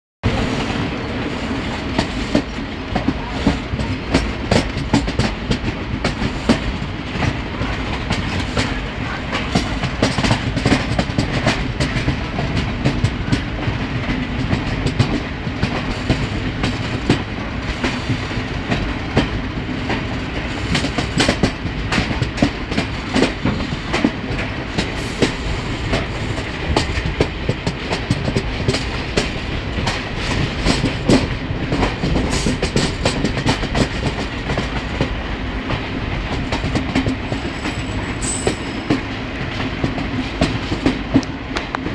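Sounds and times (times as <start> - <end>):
train carriage rumble: 0.2 - 41.9
wheels clicking over rail joints: 2.0 - 41.9.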